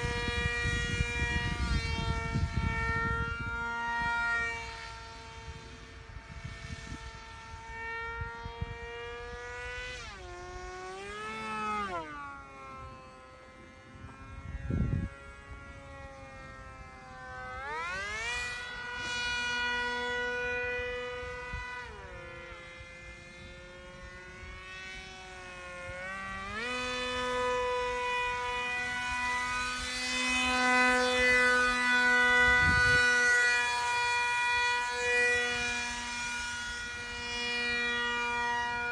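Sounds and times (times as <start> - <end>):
model airplane motor whining: 0.0 - 38.9.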